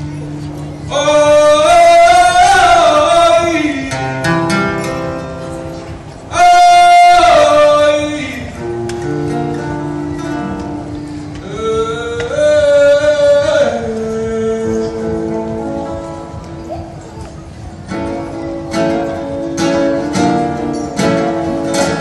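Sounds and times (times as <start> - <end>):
acoustic guitar: 0.0 - 22.0.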